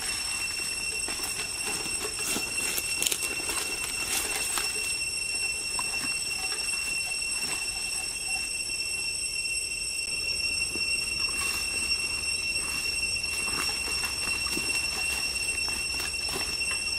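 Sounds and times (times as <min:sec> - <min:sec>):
footsteps crunching dry leaves: 0:00.0 - 0:08.1, 0:10.7 - 0:16.9
high-pitched insect drone: 0:00.0 - 0:16.9.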